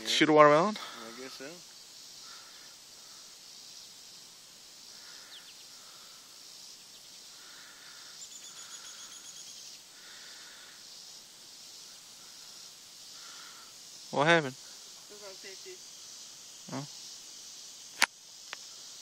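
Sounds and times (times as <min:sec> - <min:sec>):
fast ticking insect trill: 0:00.0 - 0:19.0
insect chirring: 0:00.0 - 0:19.0.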